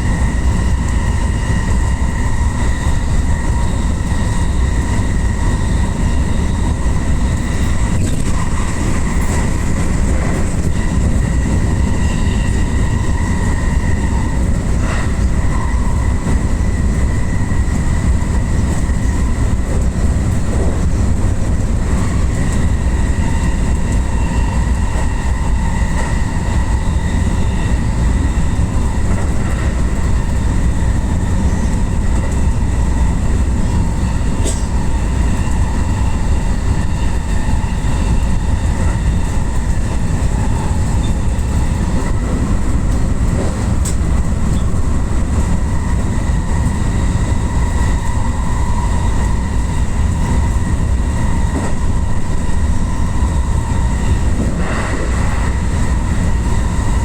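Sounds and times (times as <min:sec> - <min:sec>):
electric train running: 0:00.0 - 0:57.0.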